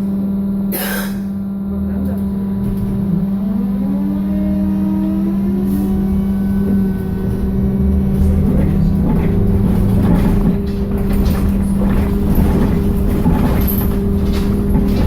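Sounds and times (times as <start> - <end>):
low hum and road rumble: 0.0 - 15.0.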